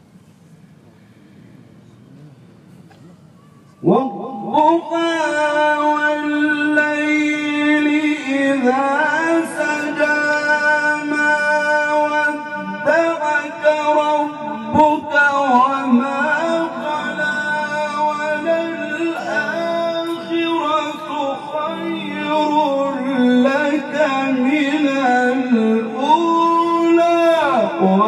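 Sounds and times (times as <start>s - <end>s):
man reciting melodically into microphone: 3.8s - 28.0s.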